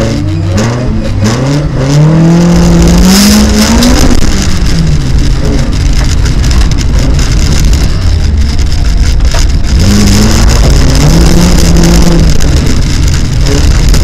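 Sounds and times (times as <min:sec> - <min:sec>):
car engine revving: 0:00.0 - 0:14.0
low rumble over rough dirt: 0:00.0 - 0:14.0.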